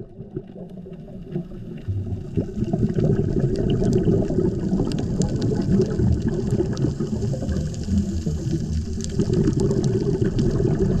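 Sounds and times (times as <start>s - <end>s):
muffled underwater water rumble: 0.0s - 11.0s.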